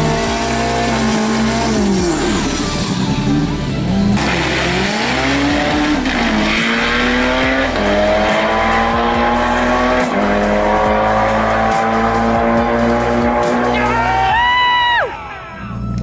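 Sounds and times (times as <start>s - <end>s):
car engine accelerating: 0.0s - 14.4s.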